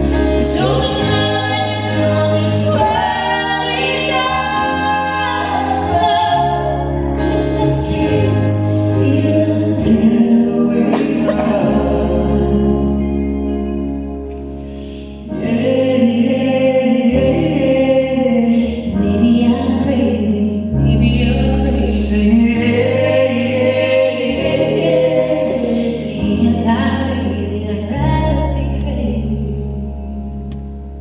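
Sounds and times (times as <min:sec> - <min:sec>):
low bass notes: 0:00.0 - 0:31.0
sustained chords: 0:00.0 - 0:31.0.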